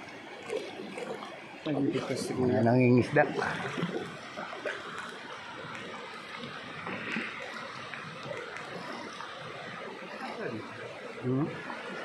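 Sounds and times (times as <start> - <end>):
river water rushing around boat: 0.0 - 12.0.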